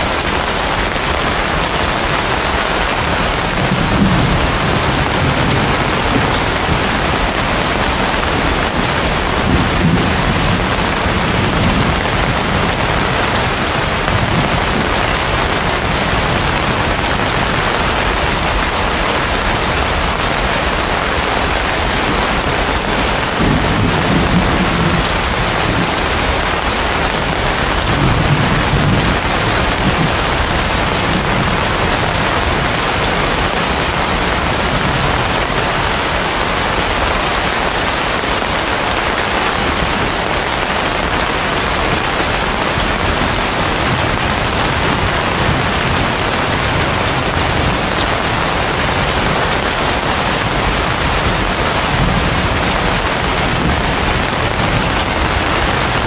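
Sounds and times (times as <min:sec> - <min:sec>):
heavy rain on leaves: 0:00.0 - 0:56.0
thunder rumbling: 0:00.1 - 0:56.0.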